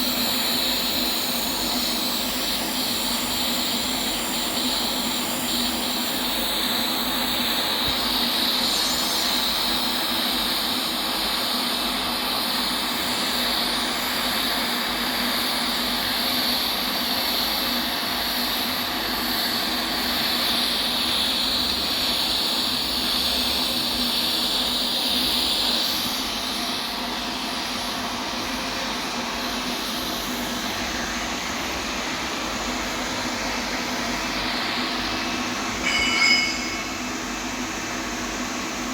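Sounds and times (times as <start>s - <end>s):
welding arc hissing: 0.0s - 37.4s.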